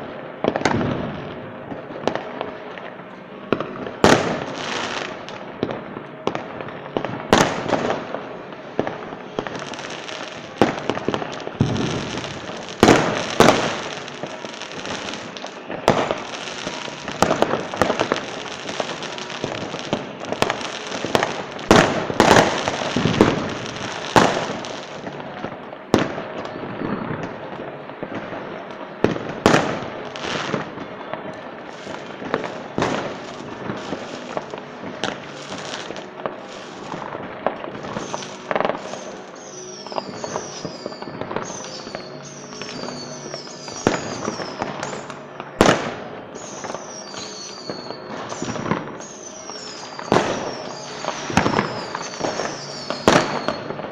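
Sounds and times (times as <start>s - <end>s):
fireworks bangs: 0.0s - 53.9s
fireworks crackling and fizzing: 0.0s - 53.9s.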